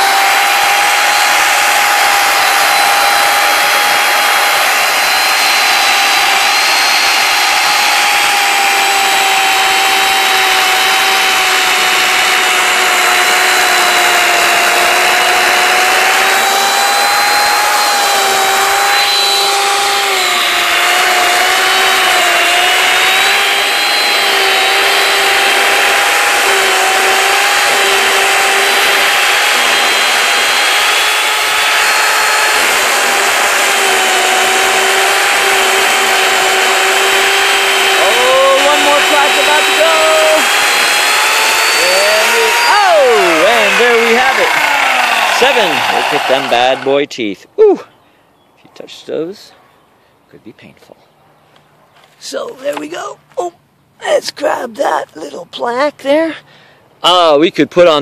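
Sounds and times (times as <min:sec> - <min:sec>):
electric chainsaw cutting log: 0:00.0 - 0:47.0, 0:52.2 - 0:57.2.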